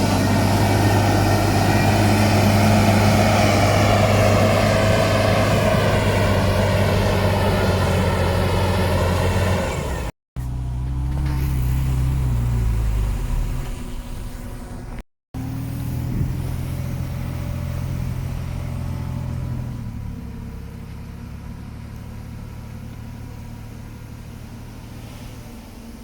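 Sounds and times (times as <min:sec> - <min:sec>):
heavy diesel engines running: 0:00.0 - 0:26.0
lower-pitched diesel engine: 0:00.0 - 0:26.0.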